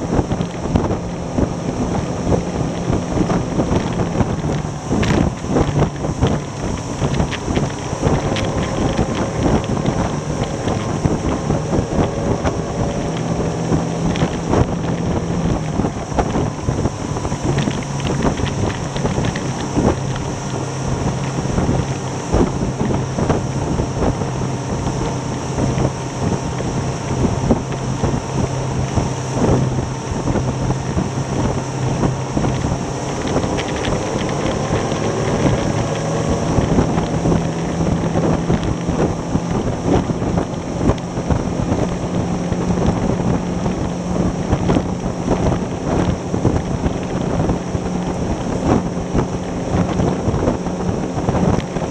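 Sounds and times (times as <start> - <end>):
outboard motor running: 0.0 - 51.9
wind buffeting microphone: 0.0 - 51.9.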